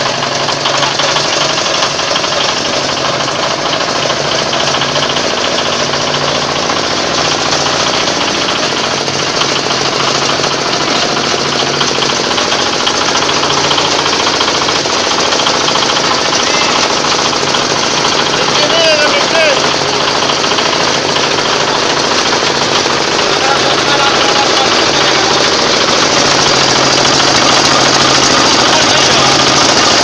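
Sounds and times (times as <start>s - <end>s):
compost grinder clattering: 0.0s - 30.0s.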